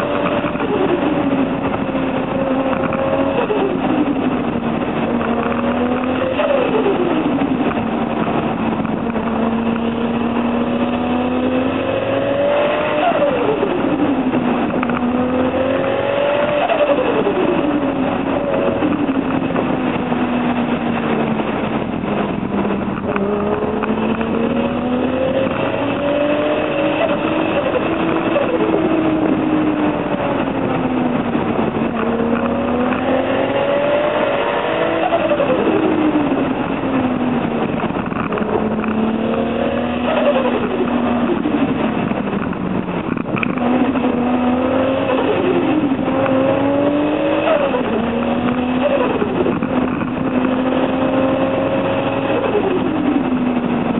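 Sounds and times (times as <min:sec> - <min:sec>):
car engine accelerating: 0:00.0 - 0:53.9
road and wind noise: 0:00.0 - 0:53.9.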